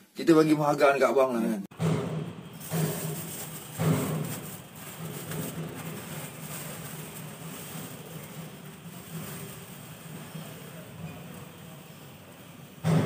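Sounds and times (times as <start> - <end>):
plastic bag rustling: 2.0 - 12.6.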